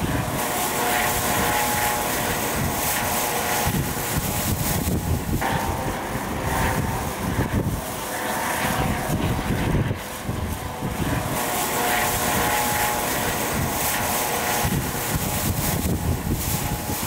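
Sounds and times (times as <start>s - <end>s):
helicopter rotor beat: 0.0s - 17.0s.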